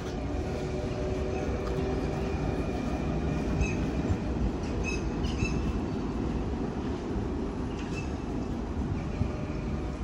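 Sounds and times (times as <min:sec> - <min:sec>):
tram rolling on rails: 0:00.0 - 0:10.0.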